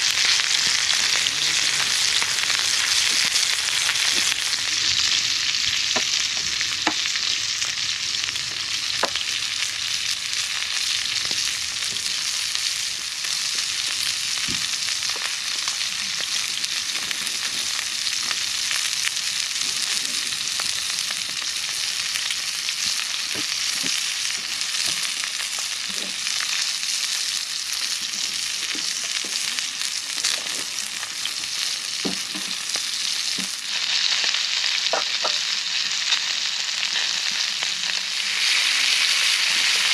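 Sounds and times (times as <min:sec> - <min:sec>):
food sizzling in skillet: 0:00.0 - 0:39.9.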